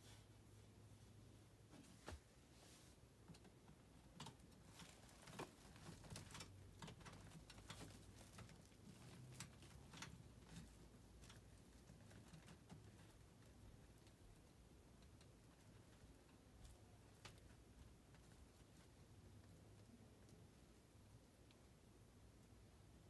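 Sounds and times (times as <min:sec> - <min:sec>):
faint low hum: 0:00.0 - 0:23.0
small clicks and rustling: 0:03.2 - 0:22.7.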